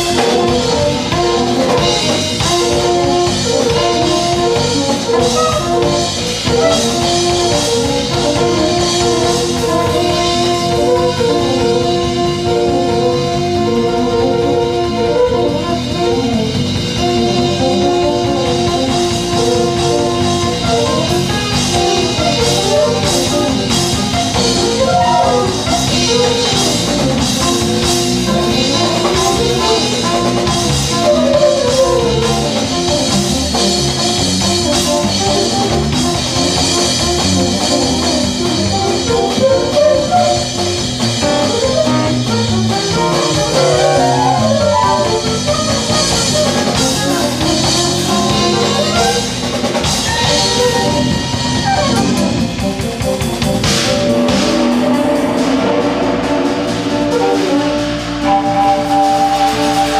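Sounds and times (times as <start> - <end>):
lead melody line: 0.0 - 59.9
live band playing: 0.0 - 59.9.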